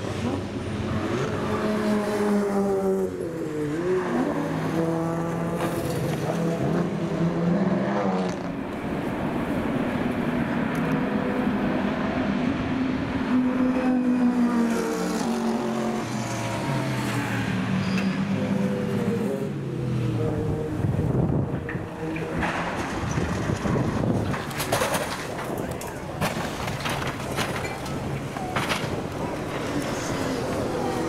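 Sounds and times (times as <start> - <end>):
race car engines: 0.0 - 31.0.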